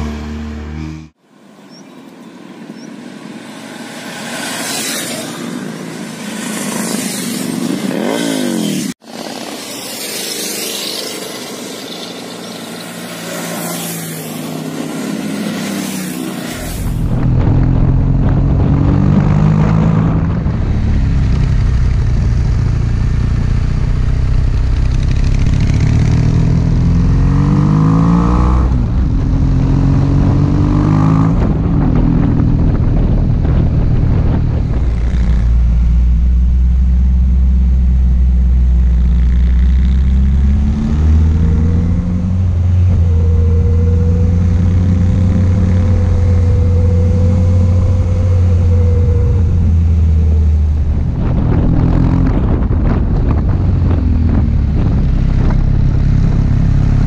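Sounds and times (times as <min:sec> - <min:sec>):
wind and road noise: 0:00.0 - 0:57.0
motorcycle engine revving: 0:02.8 - 0:57.0.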